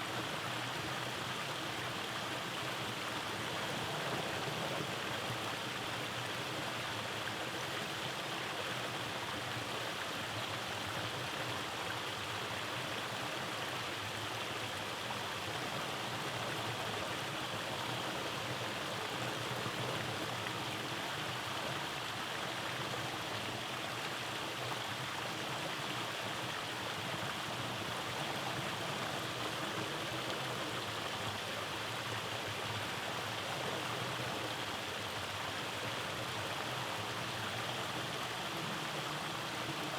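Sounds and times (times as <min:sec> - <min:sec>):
stream flowing over cascades: 0:00.1 - 0:39.9.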